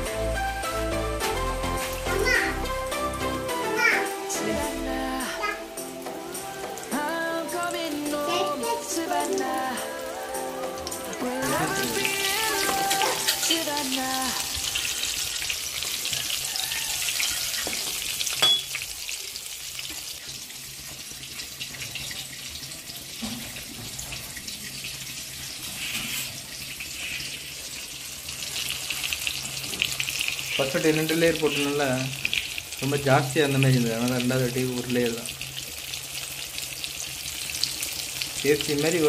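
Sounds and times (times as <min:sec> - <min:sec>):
oil sizzling: 0:00.0 - 0:39.0.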